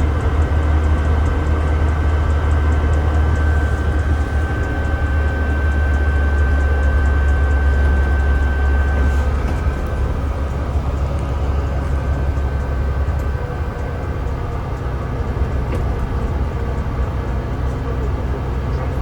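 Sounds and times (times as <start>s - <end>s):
bus diesel engine drone: 0.0s - 19.0s
road and body noise: 0.0s - 19.0s.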